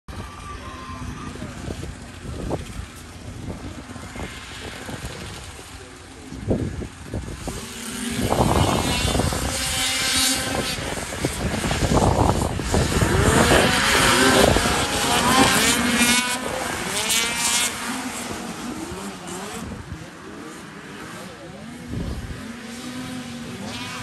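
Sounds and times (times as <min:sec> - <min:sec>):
snowmobile engines revving: 0:00.1 - 0:24.0.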